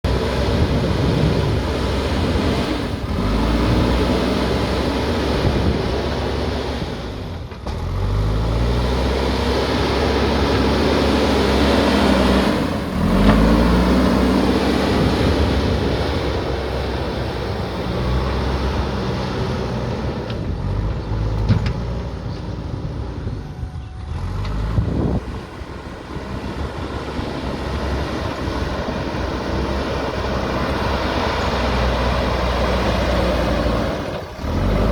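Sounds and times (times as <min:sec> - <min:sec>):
diesel engine revving under load: 0:00.0 - 0:34.9.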